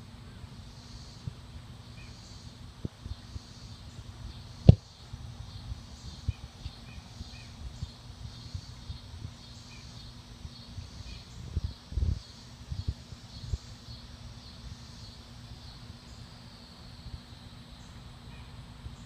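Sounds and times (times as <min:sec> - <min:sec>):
faint high pulsing hiss: 0:00.0 - 0:19.0
faint bird chirps: 0:00.2 - 0:19.0.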